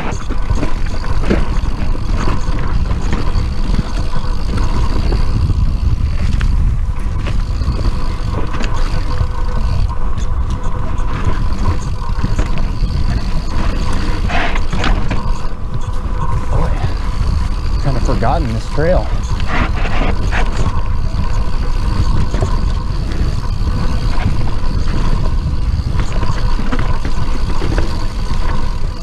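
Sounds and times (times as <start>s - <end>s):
bike clicks and knocks: 0.0s - 29.0s
bike tyre noise on dirt: 0.0s - 29.0s
thin whine: 0.0s - 29.0s
wind rumble on microphone: 0.0s - 29.0s.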